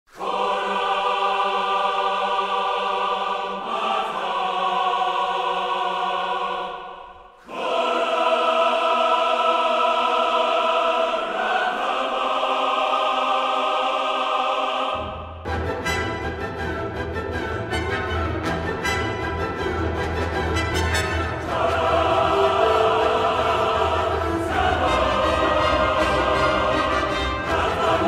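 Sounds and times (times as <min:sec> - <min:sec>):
choir singing sustained chords: 0:00.1 - 0:28.0.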